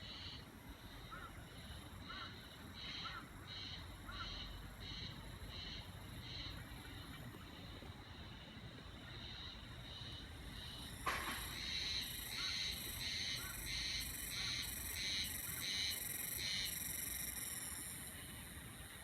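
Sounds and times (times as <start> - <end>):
cicadas singing in pulses: 0.0 - 19.0.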